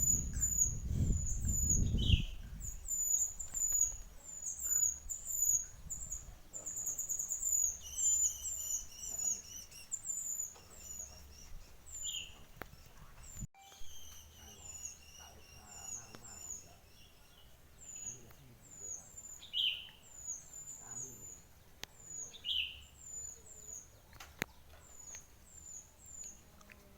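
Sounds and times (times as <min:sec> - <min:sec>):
lower whistled bird notes: 0:00.0 - 0:23.9
songbird chirping: 0:00.0 - 0:26.9.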